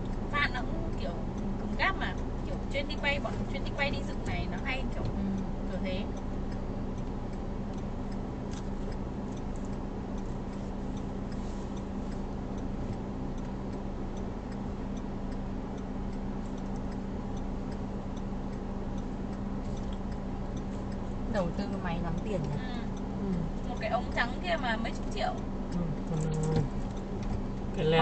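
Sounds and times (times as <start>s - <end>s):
car idling hum: 0.0s - 28.0s
turn signal ticking: 0.0s - 28.0s.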